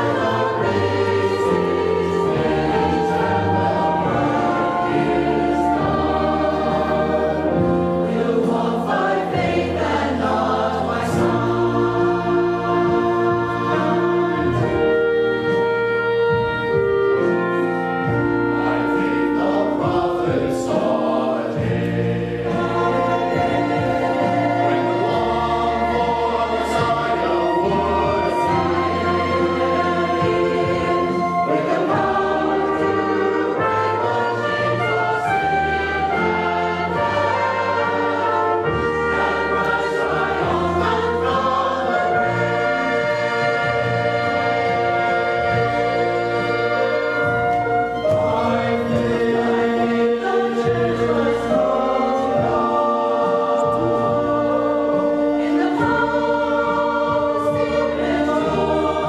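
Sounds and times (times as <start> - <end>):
mixed choir singing: 0.0 - 59.0
small band accompanying: 0.0 - 59.0.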